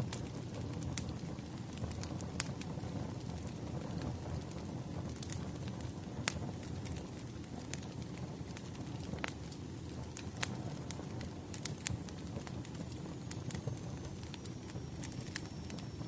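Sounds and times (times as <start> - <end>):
fire low rumble: 0.0 - 16.0
wood fire crackling pops: 0.0 - 16.0.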